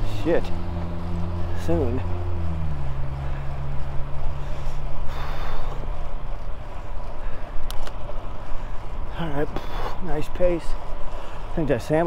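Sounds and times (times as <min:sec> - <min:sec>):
bike tyres on wet pavement: 0:00.0 - 0:12.0
low vehicle hum: 0:00.0 - 0:12.0.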